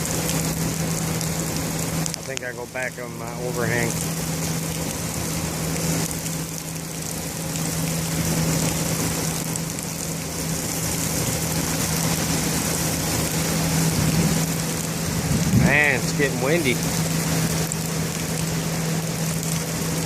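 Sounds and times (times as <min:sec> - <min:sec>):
heavy rain falling: 0:00.0 - 0:20.0
low hum: 0:00.0 - 0:20.0.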